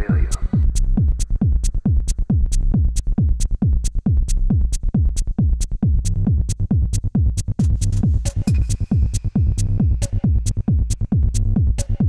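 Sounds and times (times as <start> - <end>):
hi-hats ticking: 0.0 - 12.0
techno kick drum: 0.0 - 12.0.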